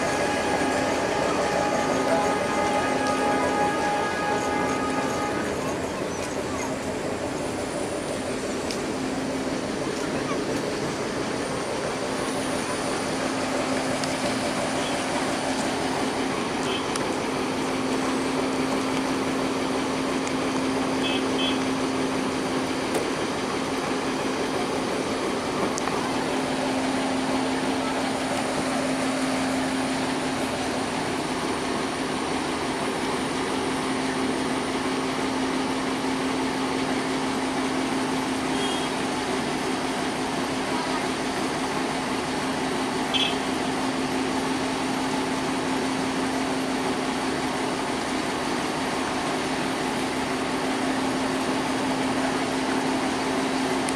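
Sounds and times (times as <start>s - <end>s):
diesel train engine hum: 0.0s - 53.9s.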